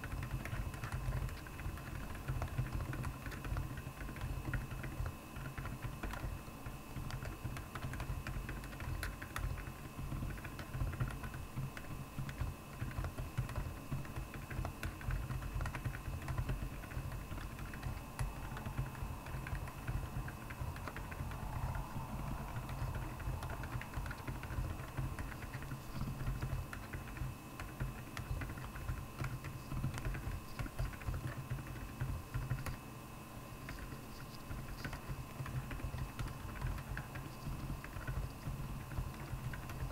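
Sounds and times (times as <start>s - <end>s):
typing on mechanical keyboard: 0.0s - 32.8s, 33.6s - 39.9s.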